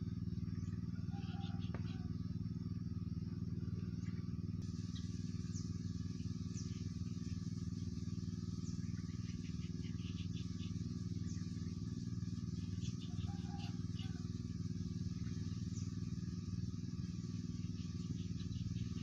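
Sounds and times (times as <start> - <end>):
engine low hum: 0.0 - 19.0.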